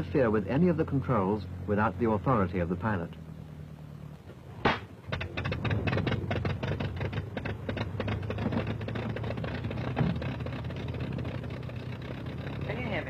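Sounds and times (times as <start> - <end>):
aircraft engine popping: 0.0 - 13.0.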